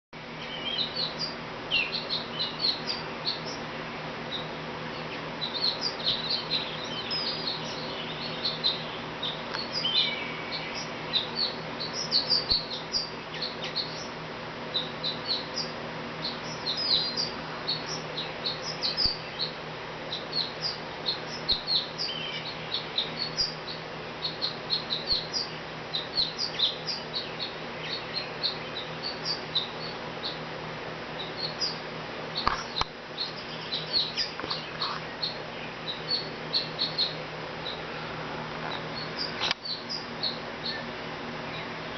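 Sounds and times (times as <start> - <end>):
sparrow chirping: 0.4 - 3.7, 4.3 - 30.5, 31.1 - 37.9, 38.6 - 41.9.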